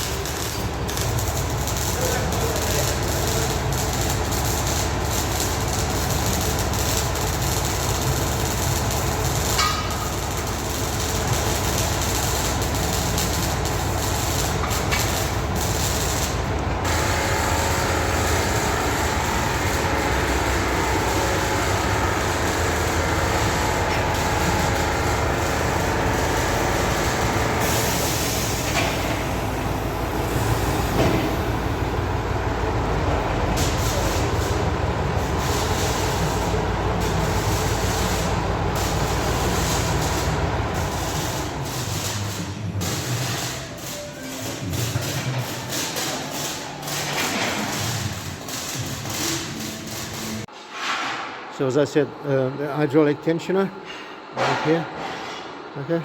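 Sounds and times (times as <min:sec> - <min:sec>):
machinery hum and rattling din: 0:00.0 - 0:56.0.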